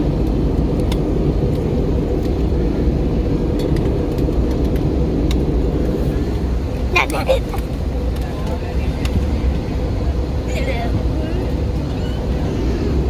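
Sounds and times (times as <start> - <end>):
jet engines and airflow roar: 0.0 - 13.0.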